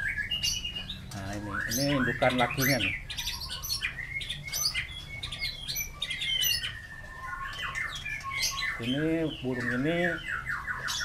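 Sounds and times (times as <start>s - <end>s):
birds singing and whistling: 0.0s - 11.0s.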